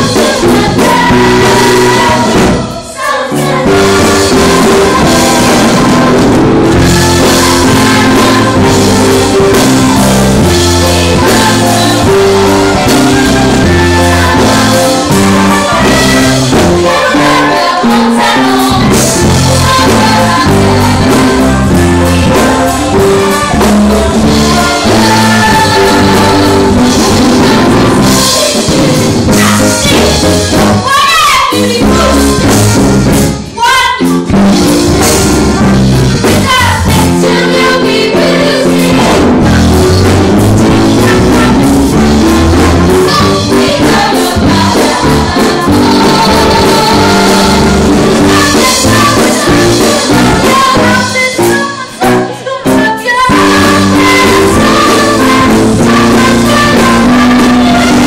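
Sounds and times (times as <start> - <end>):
ensemble singing musical number: 0.0 - 58.0
musical accompaniment with steady beat: 0.0 - 58.0.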